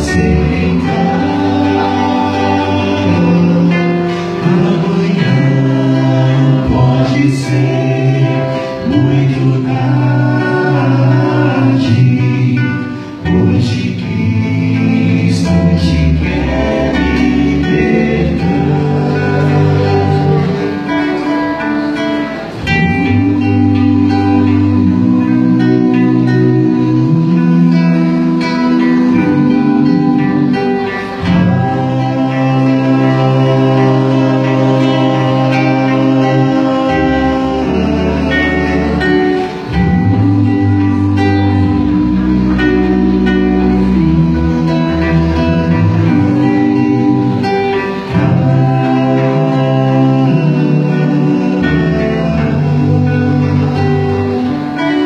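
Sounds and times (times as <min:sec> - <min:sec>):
acoustic guitar: 0:00.0 - 0:55.0
male vocal quartet singing: 0:00.0 - 0:55.0.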